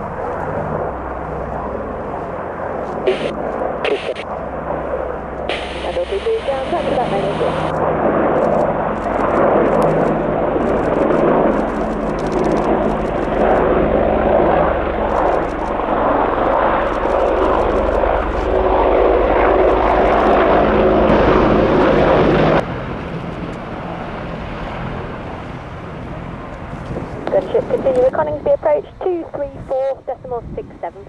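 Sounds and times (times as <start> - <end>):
helicopters passing overhead: 0.0 - 31.0.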